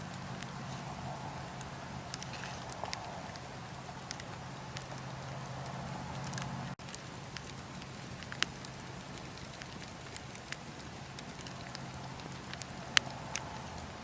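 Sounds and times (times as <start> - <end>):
bonfire crackling and popping: 0.0 - 14.0
fire low hiss: 0.0 - 14.0.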